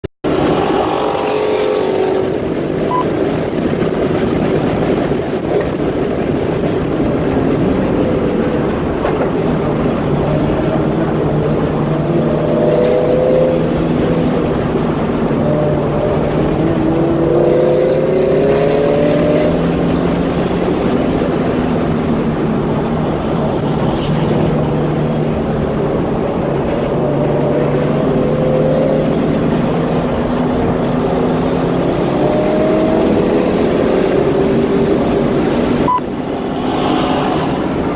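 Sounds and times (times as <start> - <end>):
car engine accelerating and shifting: 0.2 - 37.9.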